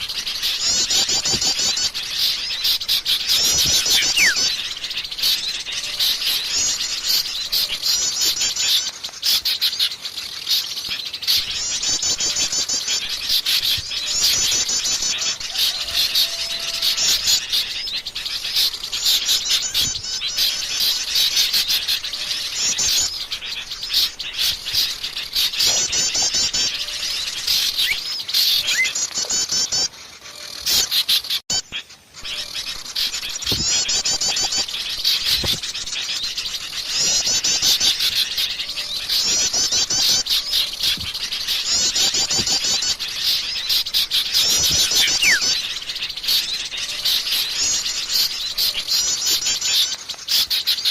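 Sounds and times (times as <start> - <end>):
songbirds chattering and chirping: 0.0 - 50.9.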